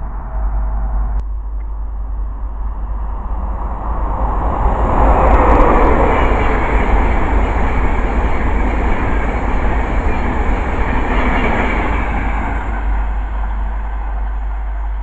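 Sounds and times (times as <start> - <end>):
passenger train passing: 0.0 - 15.0.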